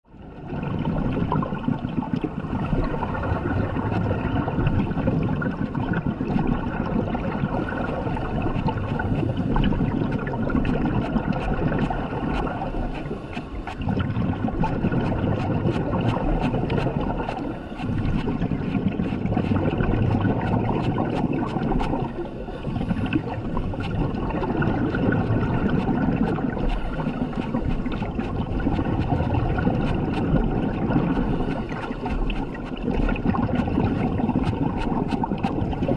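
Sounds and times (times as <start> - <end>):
underwater regulator breathing: 6.3 - 35.9.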